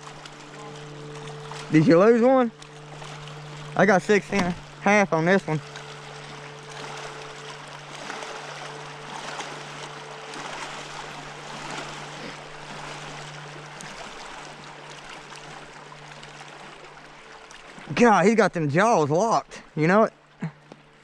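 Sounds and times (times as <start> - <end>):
flowing river water: 0.0 - 21.0
steady low hum: 0.0 - 21.0.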